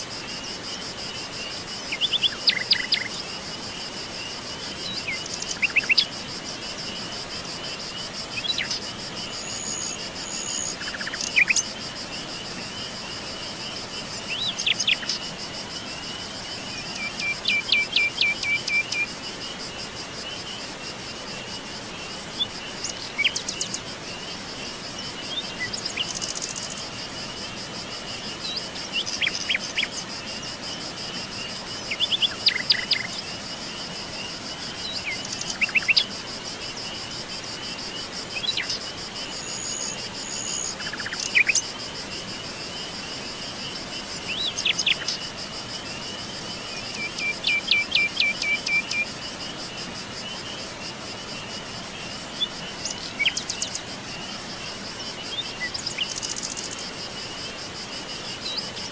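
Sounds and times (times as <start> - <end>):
high-pitched insect trill: 0.0 - 58.9.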